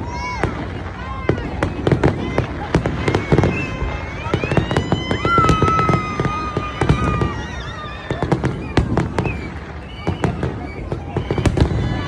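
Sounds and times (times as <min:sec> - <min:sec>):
firework whistling: 0:00.0 - 0:12.0
fireworks bangs and crackling: 0:00.0 - 0:12.0.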